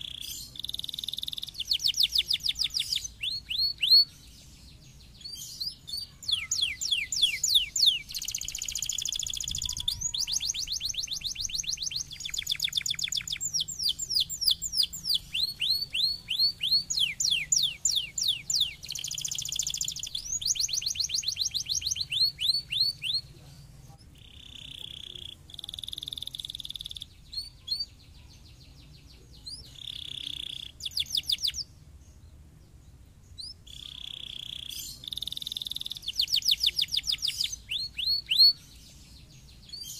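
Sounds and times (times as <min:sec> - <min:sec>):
canary singing trills: 0:00.0 - 0:32.2, 0:32.9 - 0:39.9.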